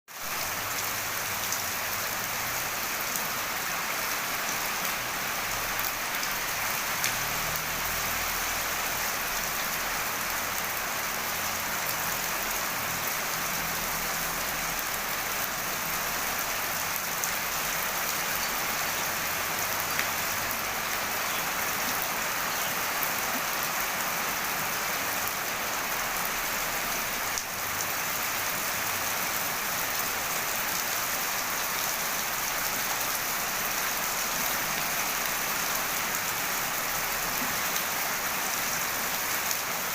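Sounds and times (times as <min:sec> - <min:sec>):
heavy rain: 0:00.1 - 0:39.9
wind: 0:00.1 - 0:39.9.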